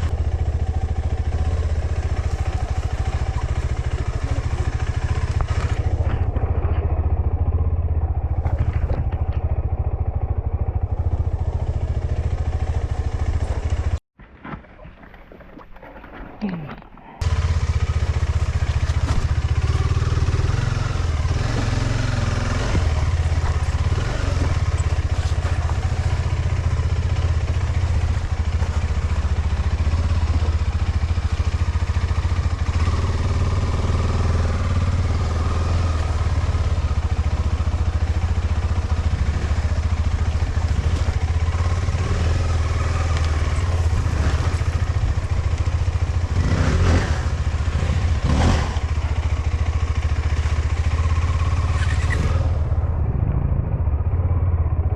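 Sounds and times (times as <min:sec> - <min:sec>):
motorcycle engine running: 0:00.0 - 0:14.0, 0:17.2 - 0:54.9
wind and road noise: 0:00.0 - 0:16.0, 0:17.2 - 0:54.9.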